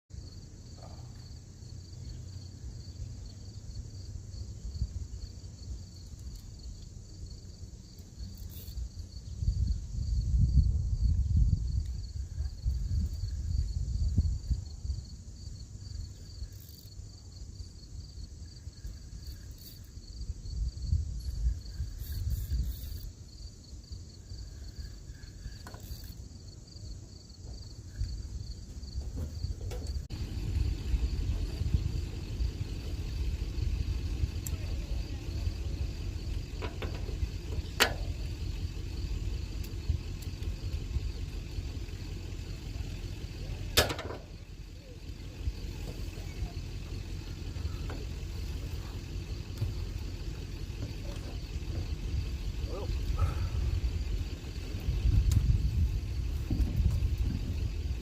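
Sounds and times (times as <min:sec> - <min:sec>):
insect chorus trilling: 0:00.1 - 0:58.0
low rumble: 0:00.2 - 0:58.0.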